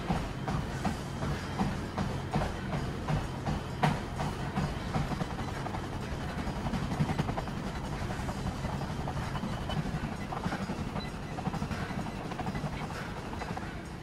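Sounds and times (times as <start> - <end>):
treadmill belt and motor: 0.0 - 14.0.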